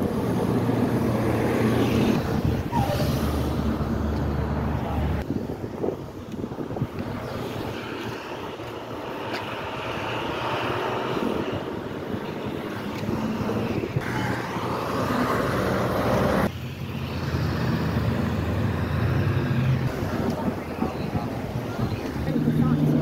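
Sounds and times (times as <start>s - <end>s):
tyre and road noise: 0.0s - 23.0s
vehicles driving past: 0.0s - 23.0s.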